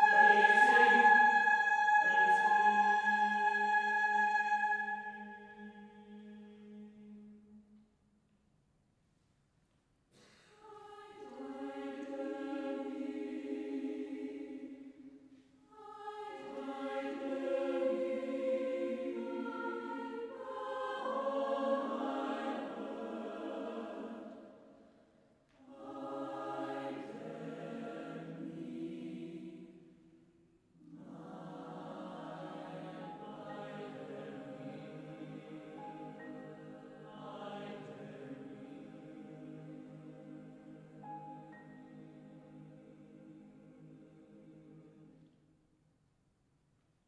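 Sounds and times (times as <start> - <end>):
mixed choir singing: 0.0 - 7.4, 10.5 - 24.8, 25.6 - 30.0, 30.8 - 45.3.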